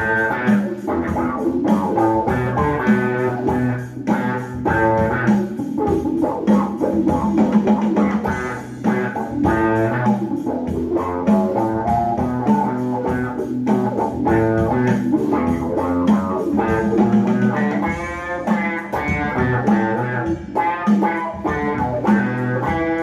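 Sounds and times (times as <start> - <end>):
electric bass guitar plucked: 0.0 - 23.0.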